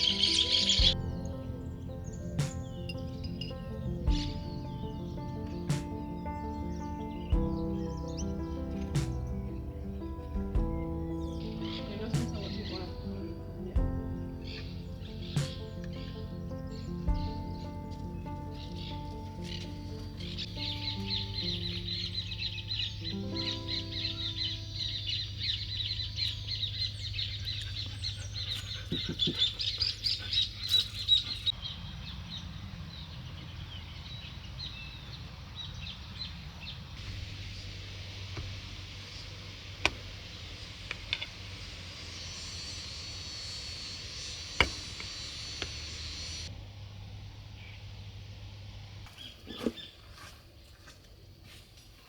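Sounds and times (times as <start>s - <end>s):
outdoor hiss: 0.0s - 32.9s, 33.9s - 50.0s
small birds chirping: 0.0s - 46.6s, 48.8s - 52.0s.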